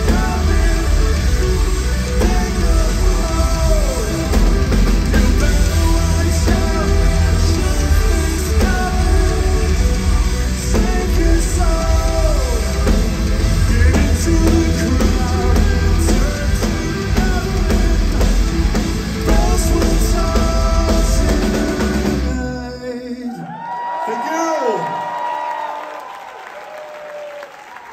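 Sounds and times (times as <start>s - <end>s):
metal band playing live: 0.0s - 22.8s
person singing lead vocal: 0.0s - 23.7s.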